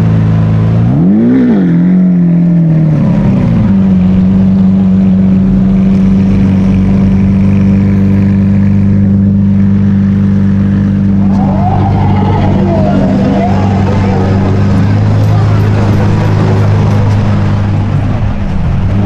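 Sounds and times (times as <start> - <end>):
sports car engine: 0.0 - 19.0.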